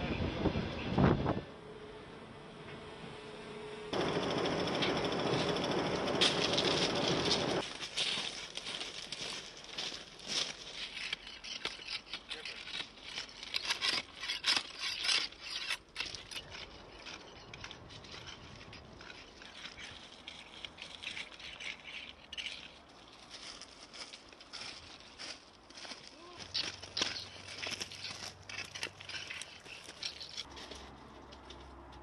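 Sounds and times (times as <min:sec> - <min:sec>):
ballast stones crunching: 0:04.0 - 0:31.7.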